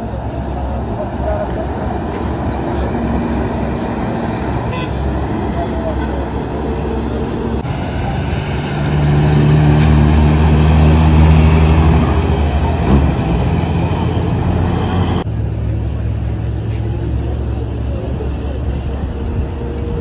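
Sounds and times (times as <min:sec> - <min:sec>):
bus diesel engine driving past: 0:00.0 - 0:20.0.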